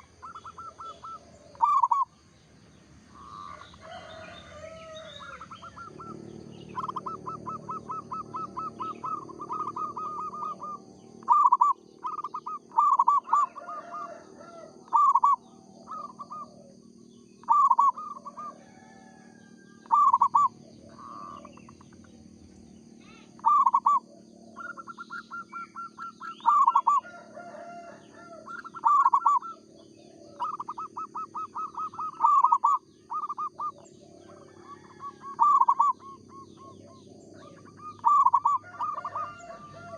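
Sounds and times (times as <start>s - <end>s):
dove cooing: 0.0s - 2.3s, 3.1s - 22.2s, 23.0s - 39.9s.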